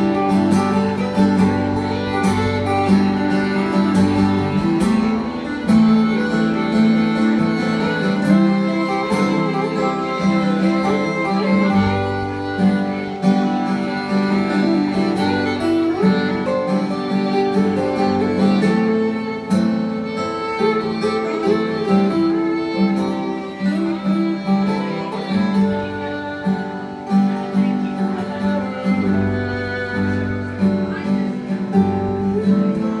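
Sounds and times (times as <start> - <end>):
acoustic guitars strumming rhythm: 0.0 - 33.0
fiddle melody: 0.0 - 33.0.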